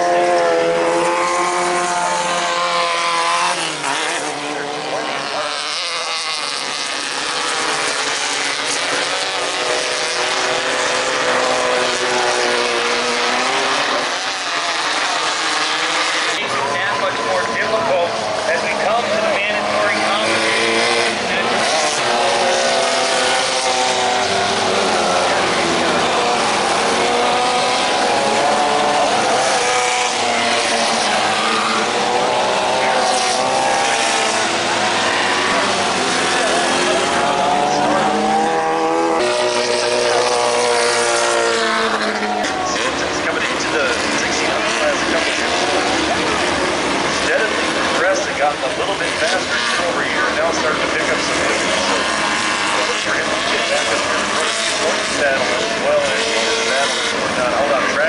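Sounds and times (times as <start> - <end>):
off-road buggy engines racing: 0.0 - 58.0.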